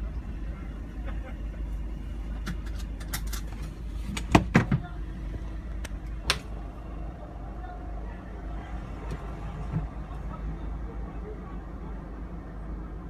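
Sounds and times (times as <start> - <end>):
vehicle rumble on road: 0.0 - 13.0.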